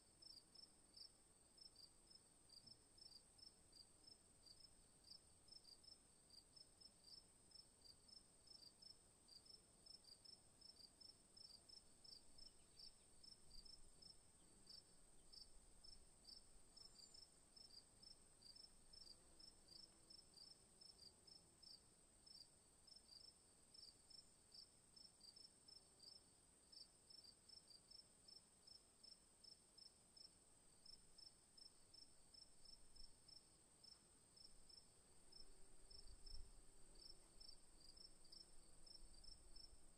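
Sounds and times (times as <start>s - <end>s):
insect chirping: 0.2s - 39.9s.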